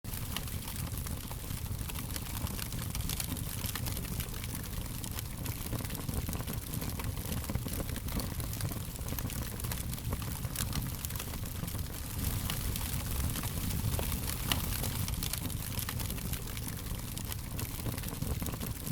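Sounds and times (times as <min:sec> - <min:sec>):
fire crackling and popping: 0:00.1 - 0:18.9.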